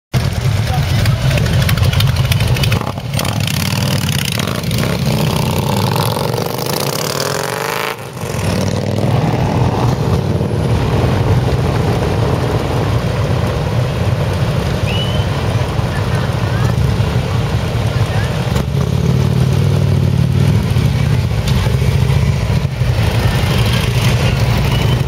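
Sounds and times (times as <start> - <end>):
motorcycles idling low rumble: 0.2 - 6.0, 9.9 - 25.0
motorcycles revving past: 0.2 - 25.0.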